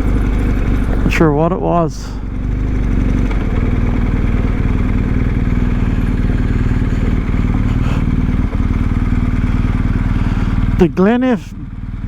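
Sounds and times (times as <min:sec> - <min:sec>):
motorcycle engine running: 0:00.0 - 0:12.0
rush of riding noise: 0:00.0 - 0:12.0.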